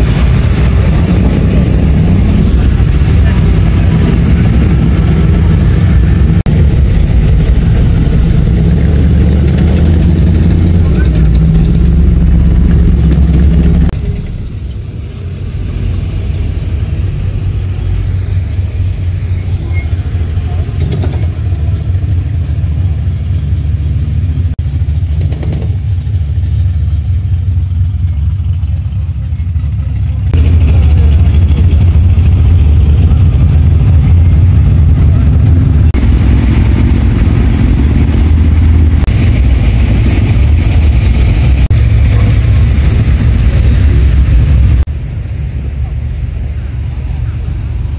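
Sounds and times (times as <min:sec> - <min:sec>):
car engines rumbling: 0:00.0 - 0:47.9.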